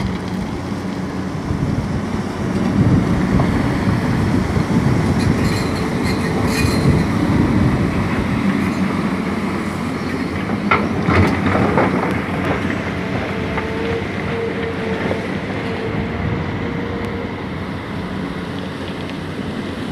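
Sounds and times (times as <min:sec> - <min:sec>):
diesel engines running: 0:00.0 - 0:19.9.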